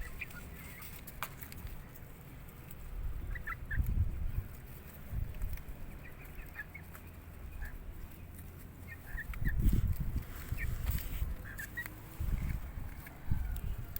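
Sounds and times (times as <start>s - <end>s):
chickens making soft calls: 0.0s - 13.9s
low rumbles: 0.0s - 13.9s.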